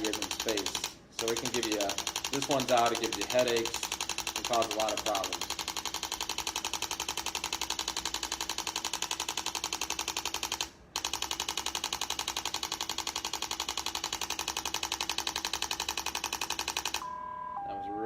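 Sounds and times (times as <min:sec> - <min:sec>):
rapid mechanical tapping: 0:00.0 - 0:17.0
steady device hum: 0:00.0 - 0:18.0.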